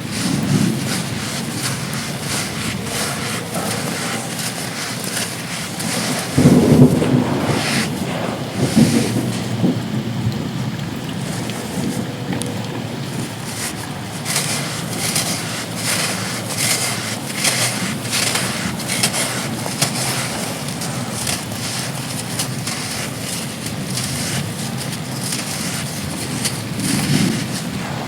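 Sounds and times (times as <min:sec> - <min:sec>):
sand blocks crumbling and crunching: 0:00.0 - 0:09.8, 0:11.2 - 0:28.0
heavy wind: 0:00.0 - 0:28.0
rain: 0:00.0 - 0:28.0.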